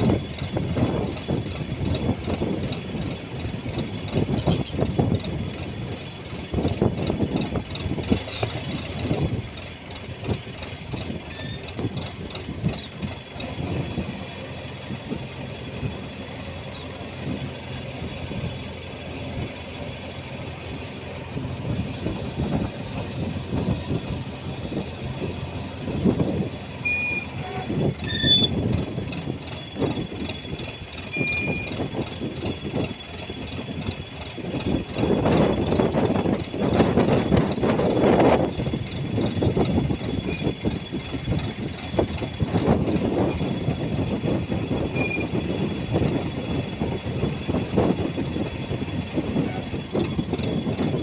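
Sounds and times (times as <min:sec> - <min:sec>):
boat engine running: 0:00.0 - 0:51.0.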